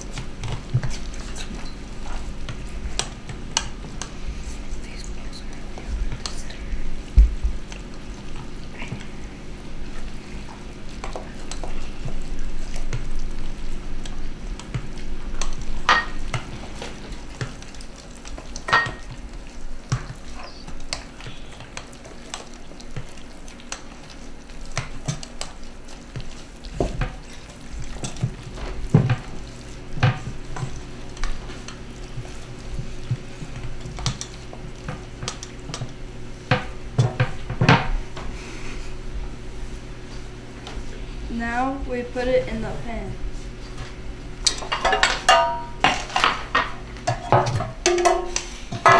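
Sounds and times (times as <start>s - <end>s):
spoon stirring thick mixture: 0.0s - 48.9s.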